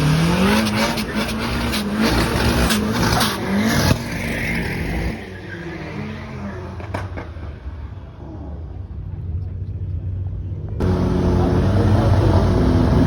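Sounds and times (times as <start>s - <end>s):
drag racing car accelerating: 0.0s - 9.6s, 10.8s - 13.0s.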